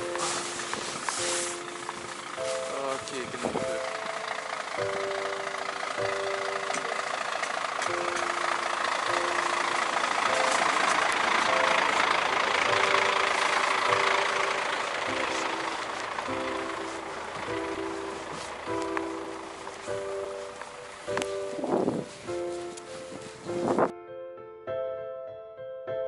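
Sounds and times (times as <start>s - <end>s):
diesel bus engine idling: 0.0s - 23.9s
background music with held notes: 0.0s - 26.0s.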